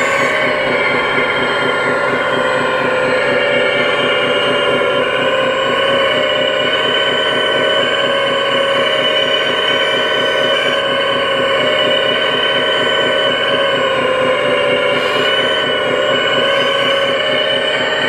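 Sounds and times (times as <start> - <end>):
hydraulic pump whining: 0.0 - 18.0.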